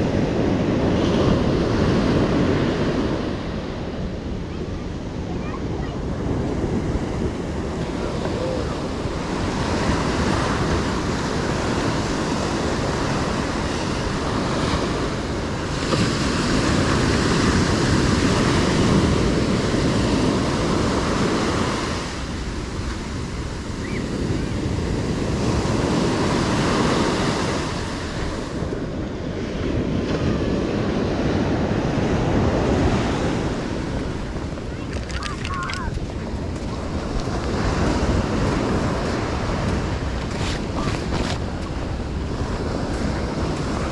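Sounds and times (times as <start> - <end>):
ocean surf washing onto beach: 0.0 - 43.9
wind buffeting microphone: 0.0 - 43.9.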